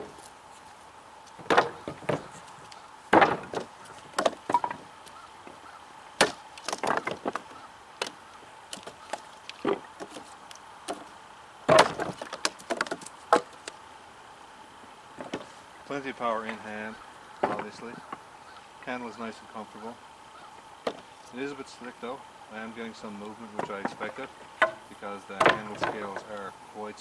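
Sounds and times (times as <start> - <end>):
wood chips splitting off: 1.3 - 13.8, 15.1 - 20.0, 20.8 - 27.0.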